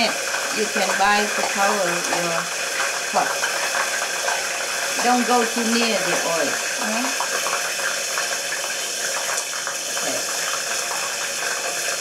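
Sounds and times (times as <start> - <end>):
deep-frying sizzle and crackling: 0.0 - 12.0.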